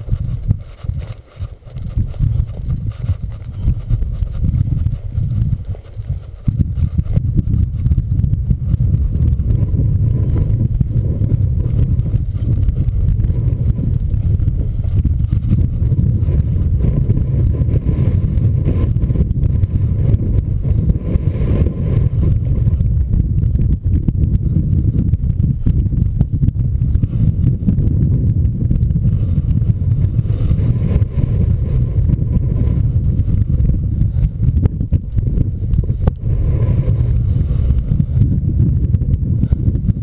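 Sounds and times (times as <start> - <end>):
strong wind buffeting microphone: 0.0 - 40.0.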